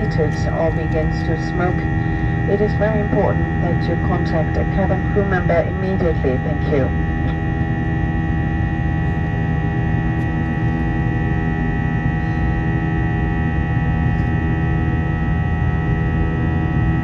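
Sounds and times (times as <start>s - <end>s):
aircraft cabin rumble: 0.0s - 17.0s
high-pitched whine: 0.0s - 17.0s.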